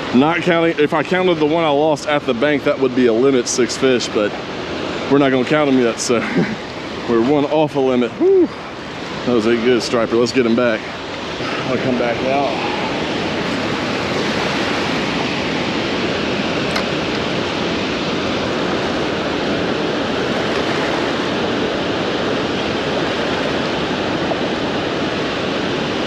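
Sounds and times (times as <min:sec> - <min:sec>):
water rushing through spillway: 0:00.0 - 0:26.0.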